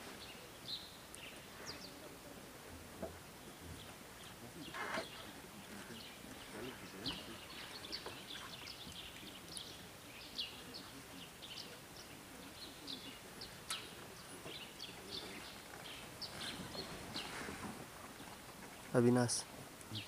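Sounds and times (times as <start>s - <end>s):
faint outdoor background: 0.0s - 20.0s
small birds chirping: 0.0s - 20.0s.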